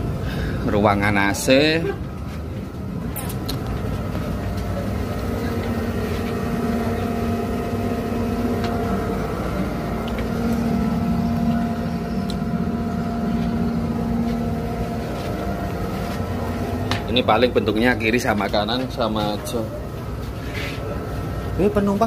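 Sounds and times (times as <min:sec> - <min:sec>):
ferry engines droning: 0:00.0 - 0:22.0.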